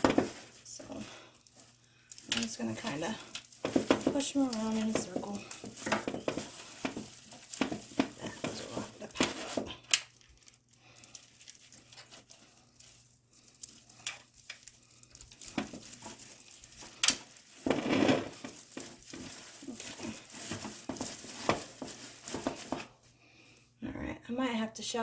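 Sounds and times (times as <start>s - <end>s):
string lights rustling: 0.0s - 23.7s.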